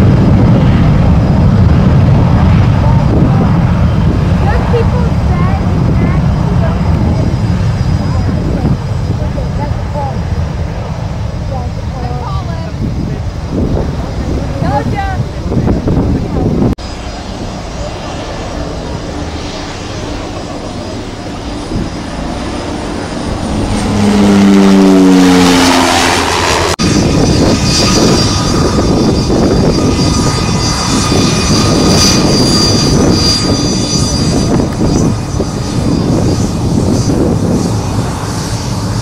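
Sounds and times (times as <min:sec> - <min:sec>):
aircraft engine with high whine: 0:00.0 - 0:39.0
aircraft passing overhead: 0:00.0 - 0:39.0.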